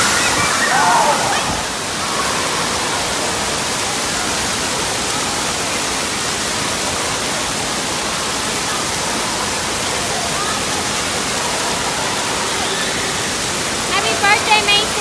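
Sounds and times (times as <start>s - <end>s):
water jets spraying and splashing: 0.0s - 15.0s.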